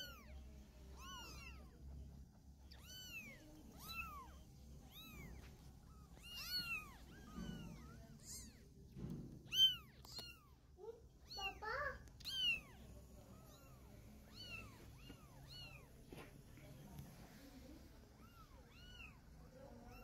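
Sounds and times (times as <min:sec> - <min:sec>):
kittens mewing: 0:00.0 - 0:01.9, 0:02.5 - 0:08.8, 0:09.4 - 0:16.0, 0:17.9 - 0:20.0.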